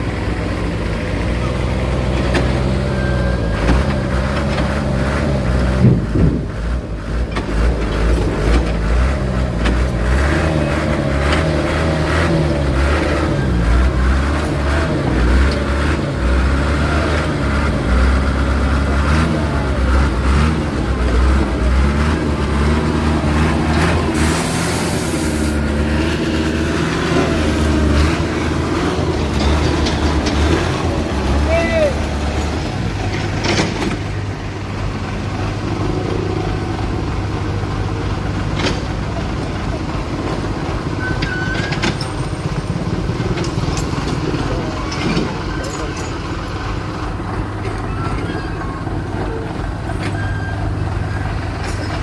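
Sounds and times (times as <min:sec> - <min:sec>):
heavy diesel engines under load: 0:00.0 - 0:52.0.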